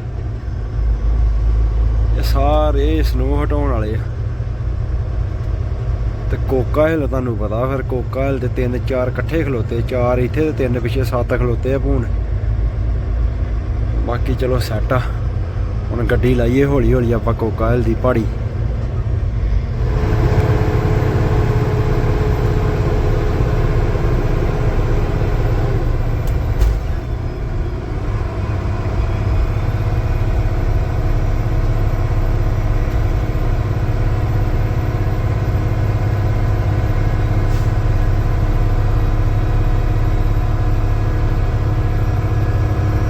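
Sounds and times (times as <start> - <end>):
truck diesel engine under load: 0.0 - 43.0.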